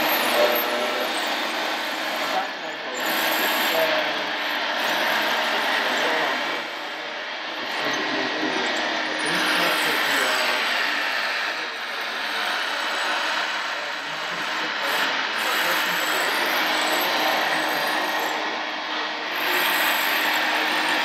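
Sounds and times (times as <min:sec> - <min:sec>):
model excavator mechanical whir: 0:00.0 - 0:21.0.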